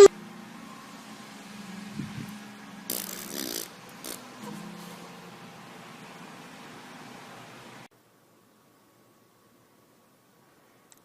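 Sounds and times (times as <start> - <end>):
steady recording hiss: 0.0 - 11.0.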